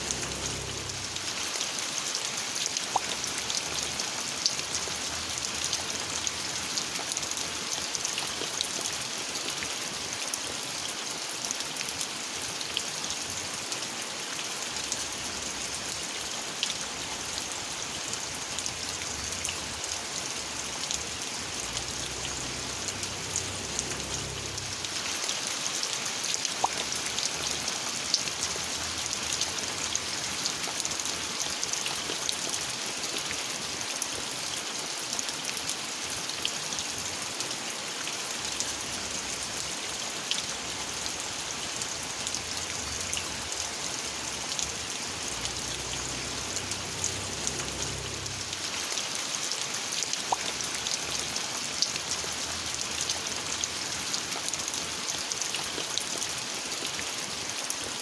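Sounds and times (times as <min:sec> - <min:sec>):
raindrops ticking: 0:00.0 - 0:09.8, 0:14.7 - 0:33.8, 0:38.4 - 0:56.9
steady rain falling: 0:00.0 - 0:58.0.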